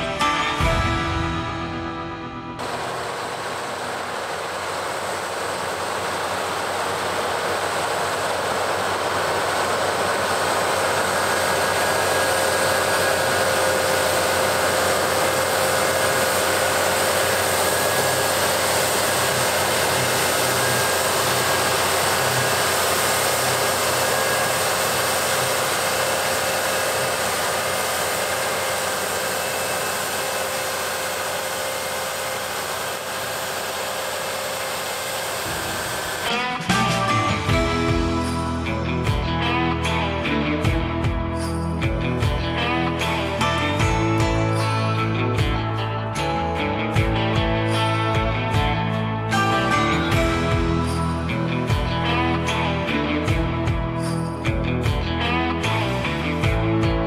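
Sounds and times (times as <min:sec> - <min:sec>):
combine harvester drone: 0:00.0 - 0:57.0.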